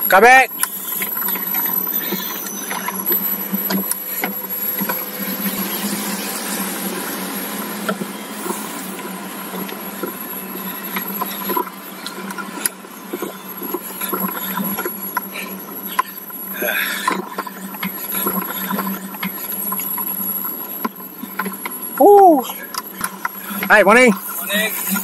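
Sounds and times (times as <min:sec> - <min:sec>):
road bike riding uphill: 0:00.0 - 0:25.0.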